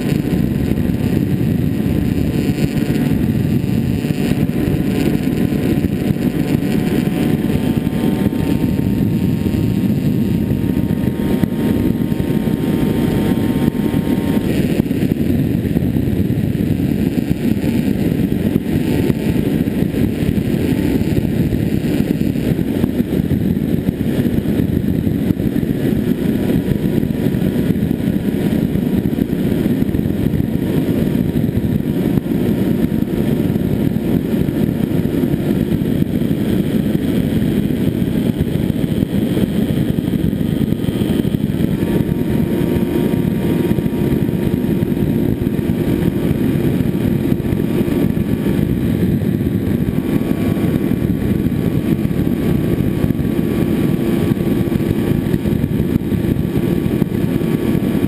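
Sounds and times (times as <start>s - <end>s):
electric motor and propeller whine: 0.0s - 58.0s
wind rushing over microphone: 0.0s - 58.0s.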